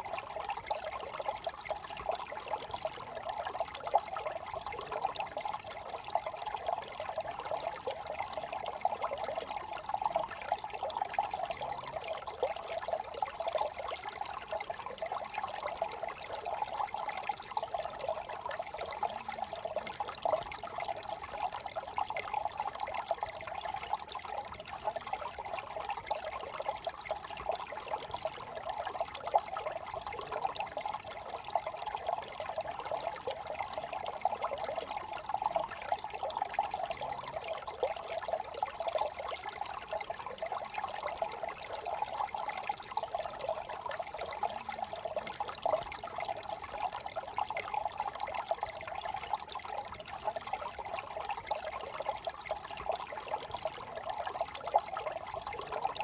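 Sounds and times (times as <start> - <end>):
brook trickling over stones: 0.0 - 56.0.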